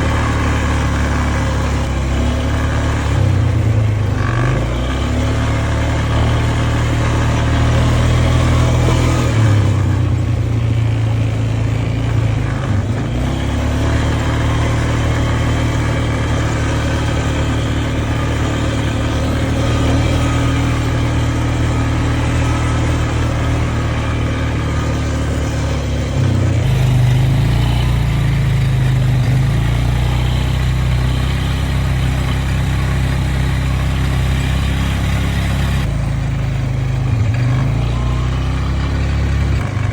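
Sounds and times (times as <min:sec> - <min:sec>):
engine running deeply: 0:00.0 - 0:39.9.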